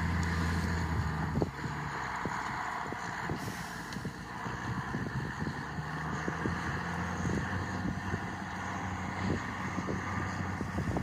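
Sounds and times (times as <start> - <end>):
distant tractor engine droning: 0.0 - 11.0.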